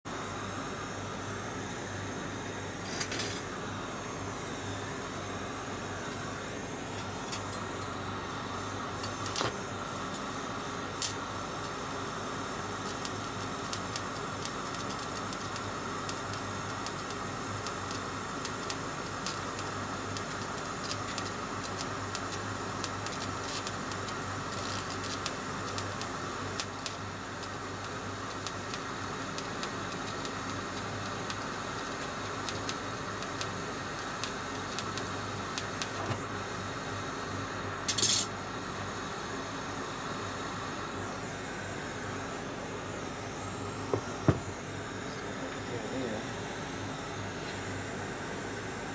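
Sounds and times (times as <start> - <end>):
welding arc hum and hiss: 0.0 - 48.9.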